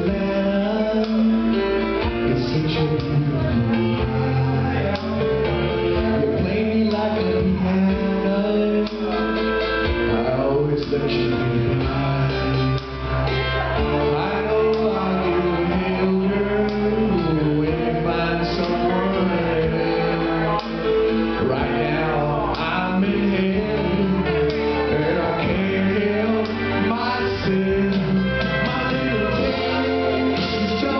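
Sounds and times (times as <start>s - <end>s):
country band playing: 0.0s - 30.9s
man singing: 0.0s - 30.9s.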